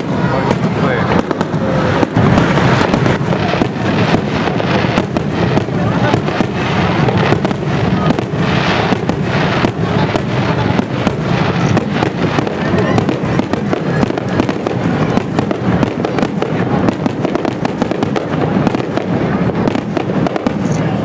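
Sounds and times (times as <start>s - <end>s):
continuous fireworks rumble: 0.0s - 21.0s
fireworks bangs and crackles: 0.0s - 21.0s.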